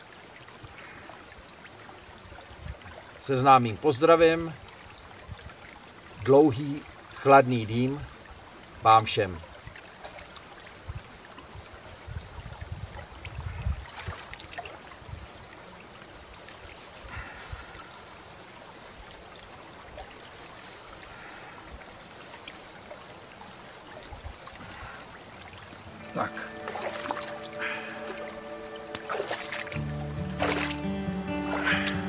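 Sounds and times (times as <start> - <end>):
brook babbling over stones: 0.0 - 32.0.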